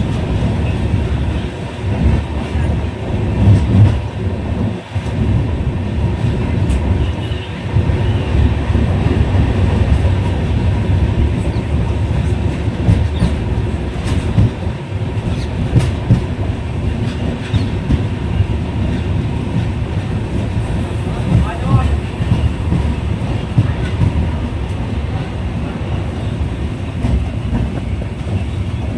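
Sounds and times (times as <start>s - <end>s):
train wheels rumbling on track: 0.0s - 28.9s.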